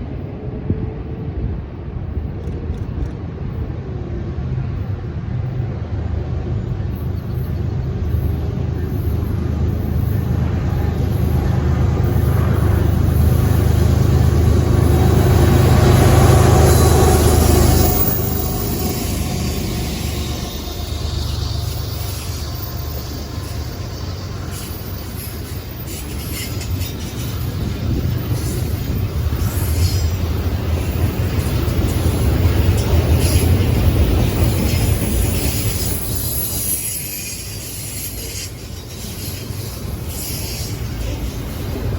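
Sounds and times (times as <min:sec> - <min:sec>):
diesel locomotive engine drone: 0:00.0 - 0:41.9
train cars rolling past: 0:00.0 - 0:41.9.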